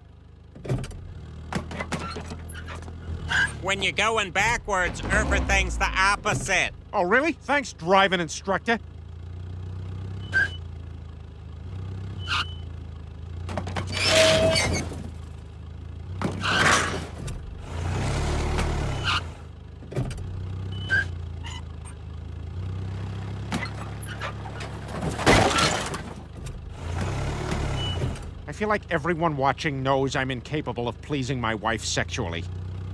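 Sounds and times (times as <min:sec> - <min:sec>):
car engine humming: 0:00.0 - 0:32.9.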